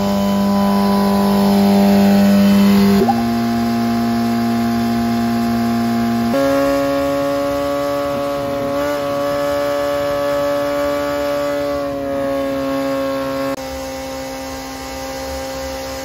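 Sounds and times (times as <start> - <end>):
race engine revving on dyno: 0.0 - 16.0.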